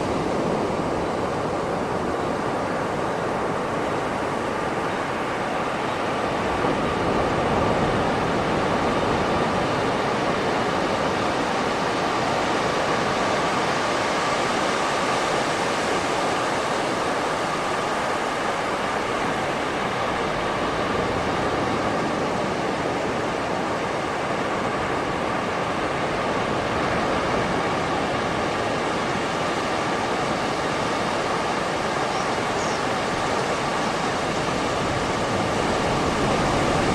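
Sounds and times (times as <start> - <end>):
sea waves washing onto beach: 0.0 - 36.9.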